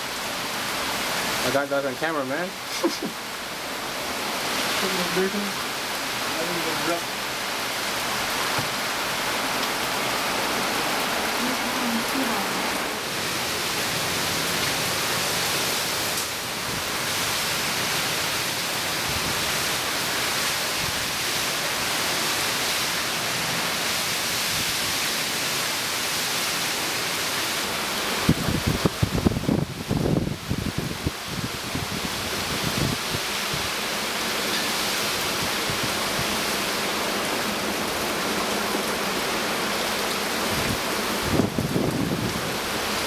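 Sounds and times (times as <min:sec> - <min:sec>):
heavy rain downpour: 0:00.0 - 0:43.0
wind: 0:00.0 - 0:43.0.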